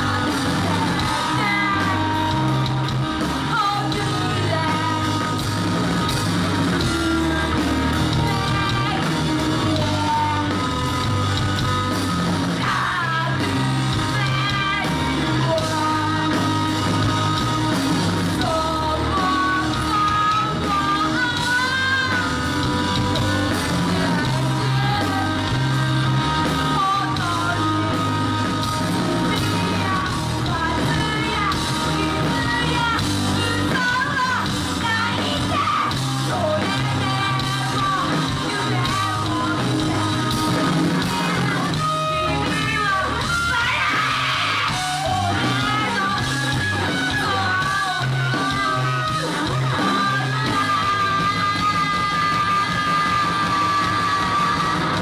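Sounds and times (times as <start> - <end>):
lead singer singing: 0.0 - 55.0
rock band playing live: 0.0 - 55.0.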